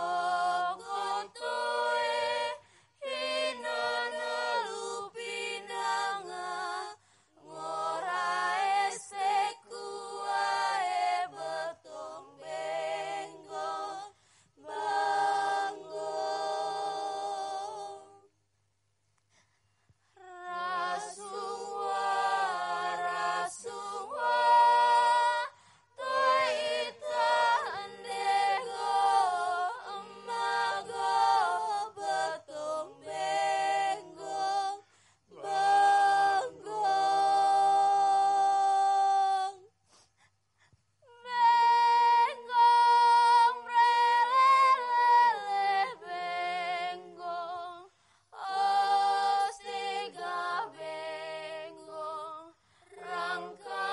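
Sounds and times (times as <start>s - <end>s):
voices singing slow chant: 0.0s - 18.6s, 19.2s - 53.9s.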